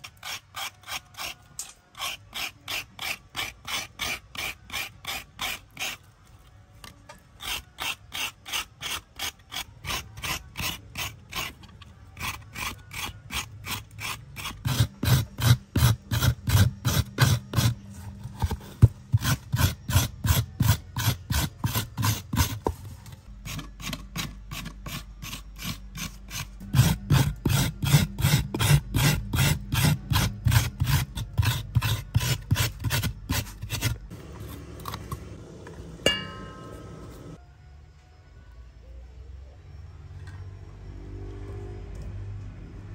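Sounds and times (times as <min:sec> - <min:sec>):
food grating by hand: 0:00.0 - 0:06.2, 0:07.2 - 0:35.4.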